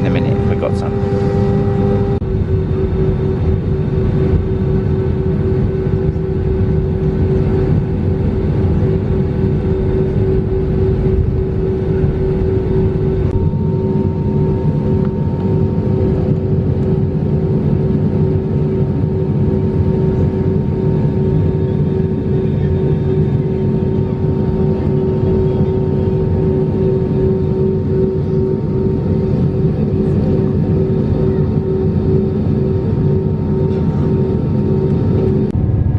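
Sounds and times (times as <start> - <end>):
aircraft engines rumbling in cabin: 0.0 - 35.9
constant hum: 0.0 - 35.9.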